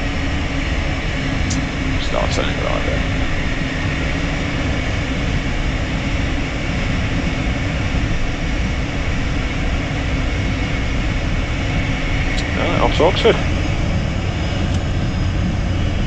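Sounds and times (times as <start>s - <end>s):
jet engines at taxi thrust: 0.0s - 16.0s.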